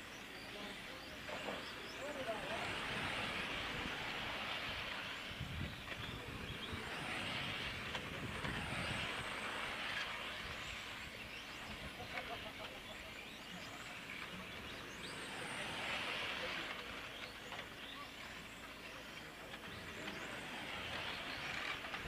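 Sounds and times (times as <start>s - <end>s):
rc cars whooshing past: 0.0s - 22.0s.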